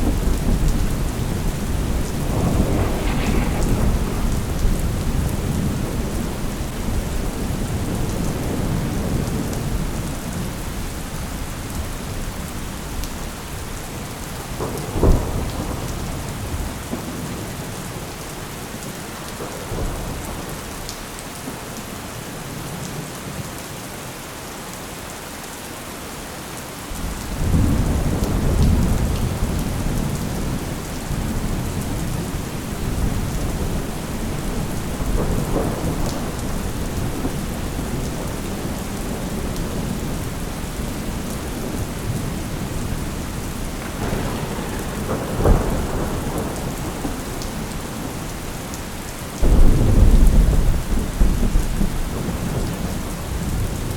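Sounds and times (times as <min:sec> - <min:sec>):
rolling thunder: 0:00.0 - 0:18.1, 0:26.9 - 0:53.9
steady rain: 0:00.0 - 0:53.9.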